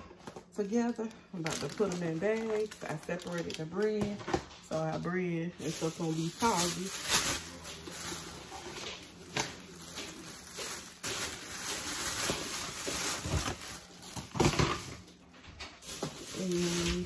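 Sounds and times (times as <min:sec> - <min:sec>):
plastic bags crinkling: 0:00.1 - 0:17.0.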